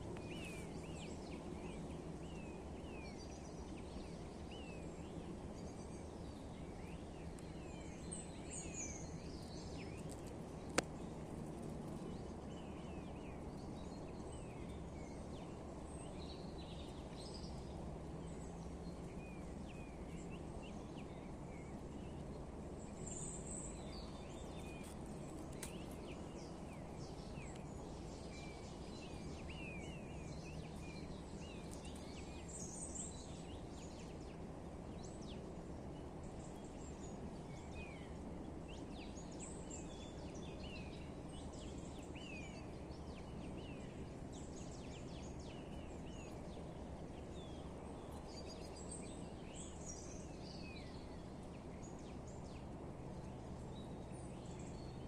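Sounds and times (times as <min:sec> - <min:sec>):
birds chirping and twittering: 0:00.0 - 0:55.0
low background noise: 0:00.0 - 0:55.0.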